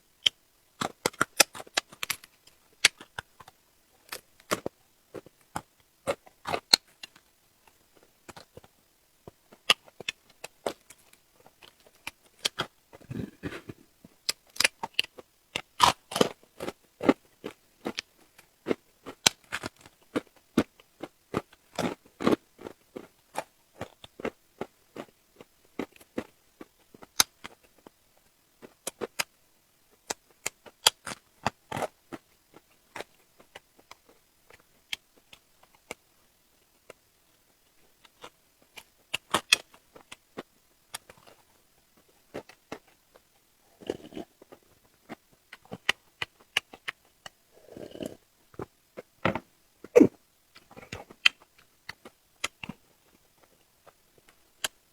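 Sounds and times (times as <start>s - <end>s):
chewing and crunching food: 0.2s - 54.8s.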